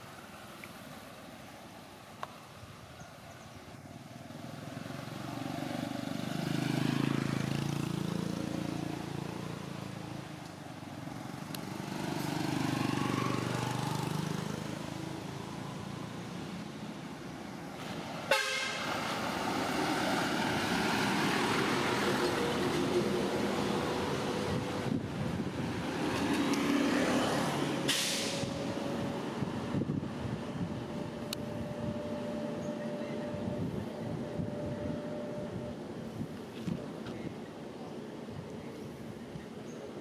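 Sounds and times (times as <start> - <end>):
vehicles passing by: 0.0 - 40.0
steady engine hum: 3.6 - 40.0.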